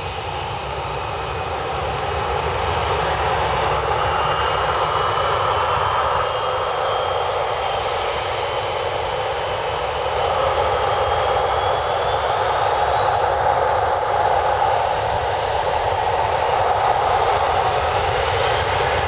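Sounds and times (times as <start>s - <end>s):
jet engines during takeoff roll: 0.0s - 19.0s.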